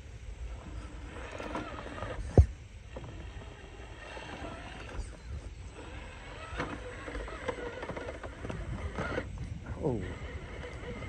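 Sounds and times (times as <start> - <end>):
rc car electric motor running: 0.5 - 11.0.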